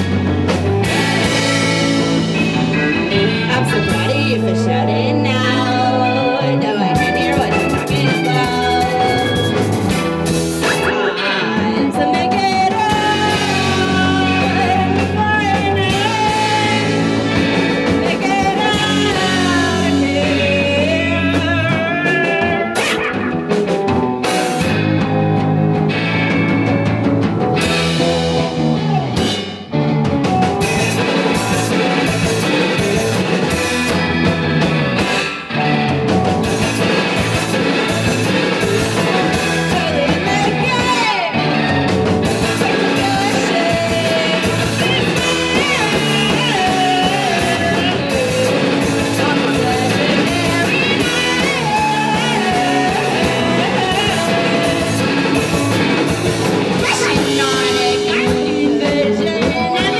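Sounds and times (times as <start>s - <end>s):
drum kit: 0.0s - 59.9s
electric bass: 0.0s - 59.9s
electric guitars: 0.0s - 59.9s.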